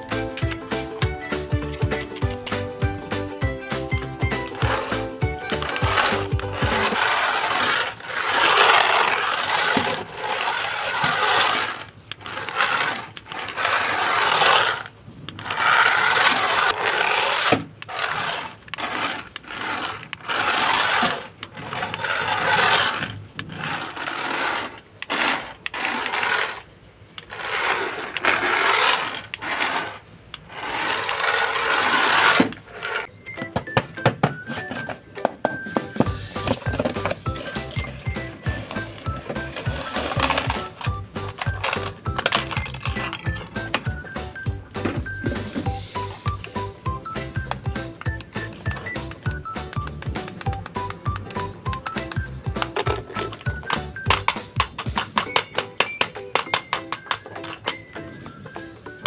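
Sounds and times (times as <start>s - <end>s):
plastic and cardboard rustling: 0.0s - 59.0s.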